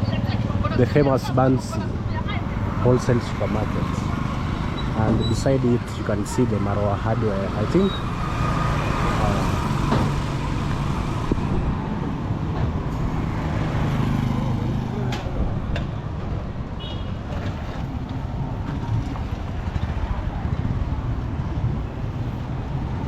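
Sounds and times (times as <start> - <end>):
road traffic: 0.0 - 23.0
vehicle engine humming: 0.0 - 23.0.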